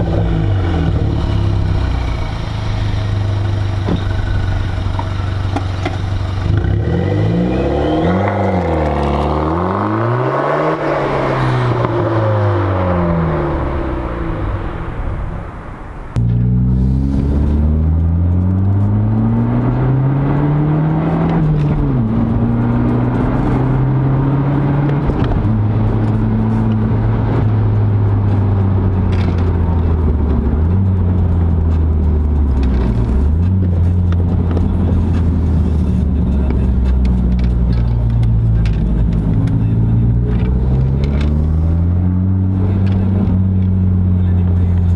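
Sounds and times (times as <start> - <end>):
car engine and exhaust: 0.0 - 44.9.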